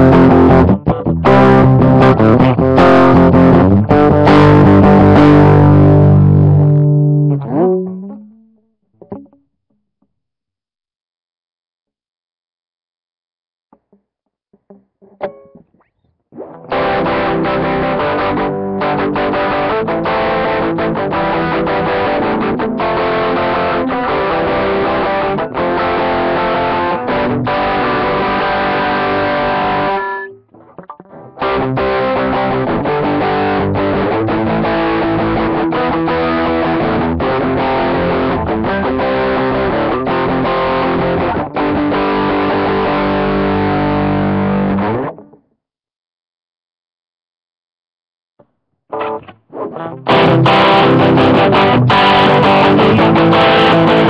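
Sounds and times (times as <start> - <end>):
distorted electric guitar chords: 0.0 - 9.4, 14.6 - 45.5, 48.9 - 54.0.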